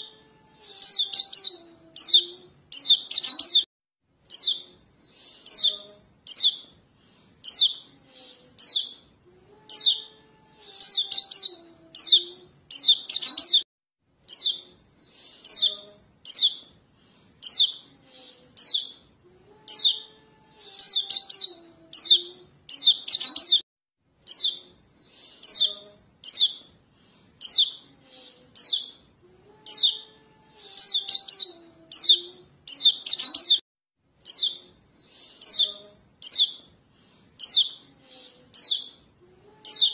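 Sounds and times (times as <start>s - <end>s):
rapid high bird chirps: 0.0s - 9.1s, 9.7s - 13.6s, 14.2s - 19.1s, 19.7s - 23.6s, 24.2s - 29.1s, 29.7s - 33.6s, 34.2s - 39.0s, 39.7s - 39.9s.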